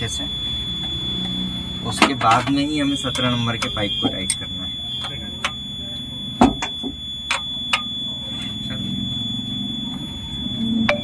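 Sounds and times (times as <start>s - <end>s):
high-pitched tone: 0.0s - 11.0s.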